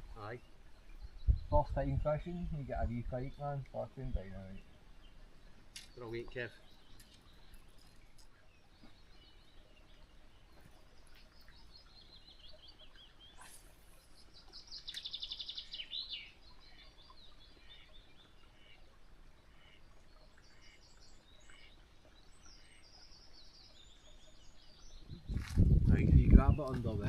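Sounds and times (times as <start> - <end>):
birds singing and chirping: 0.0 - 27.0.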